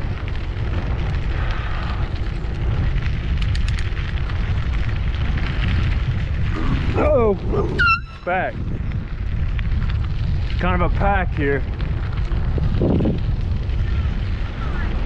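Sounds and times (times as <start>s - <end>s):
bicycle tyres rolling on gravel: 0.0s - 15.0s
wind buffeting microphone: 0.0s - 15.0s.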